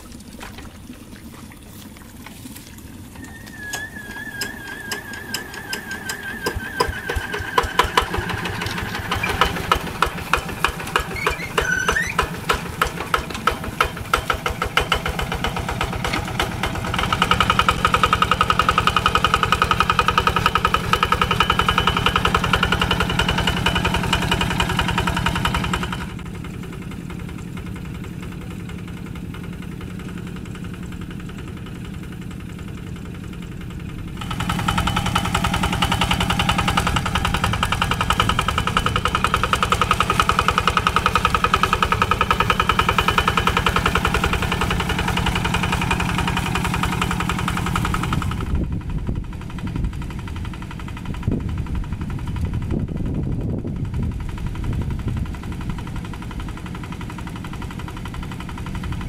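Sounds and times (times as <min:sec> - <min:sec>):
diesel tractor engine chugging: 0:02.9 - 0:59.0.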